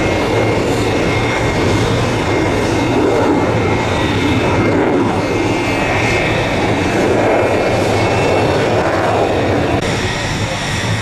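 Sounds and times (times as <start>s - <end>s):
fighter jet engine roar: 0.0s - 11.0s.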